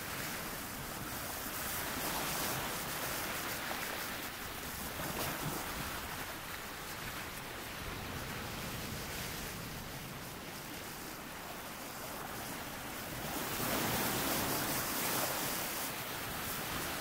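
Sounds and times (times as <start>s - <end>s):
ocean waves washing ashore: 0.0s - 17.0s.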